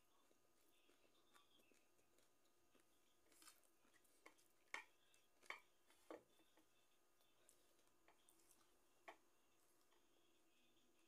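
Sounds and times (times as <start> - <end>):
eating from ceramic plate: 0.1 - 10.4.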